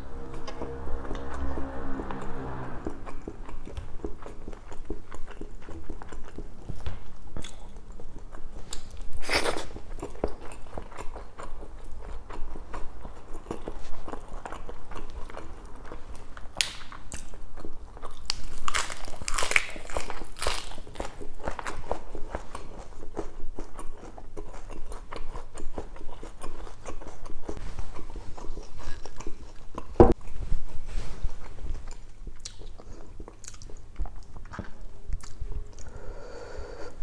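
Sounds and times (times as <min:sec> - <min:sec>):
person chewing: 0:00.1 - 0:30.4, 0:31.8 - 0:37.0.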